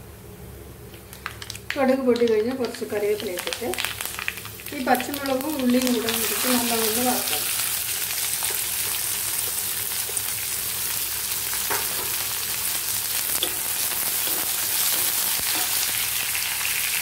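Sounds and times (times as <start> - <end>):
onions sizzling in hot oil: 1.3 - 17.0.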